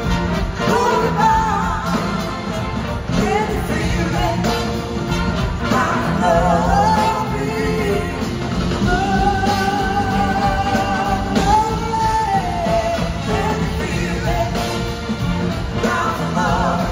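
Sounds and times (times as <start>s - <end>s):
blues-rock band playing: 0.0s - 16.9s.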